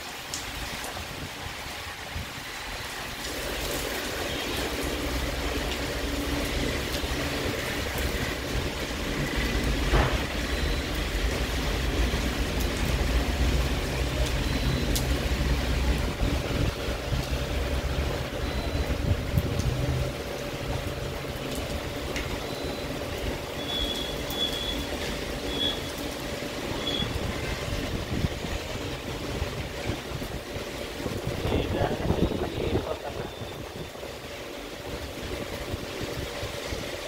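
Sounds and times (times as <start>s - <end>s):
heavy rain hissing: 0.0s - 37.0s
traffic rumbling on wet road: 0.0s - 37.0s.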